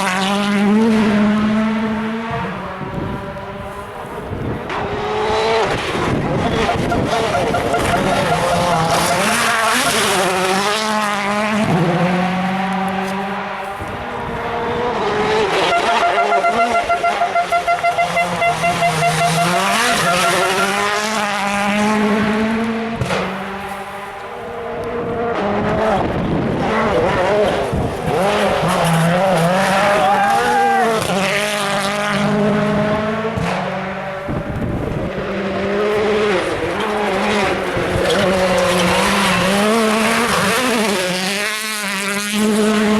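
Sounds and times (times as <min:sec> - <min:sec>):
rally car engines at full throttle: 0:00.0 - 0:42.9.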